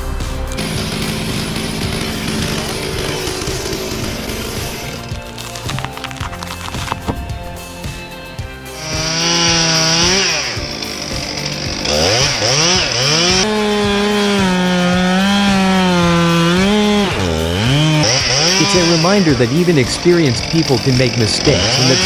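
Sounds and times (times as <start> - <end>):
chainsaw cutting wood: 0.4 - 22.0.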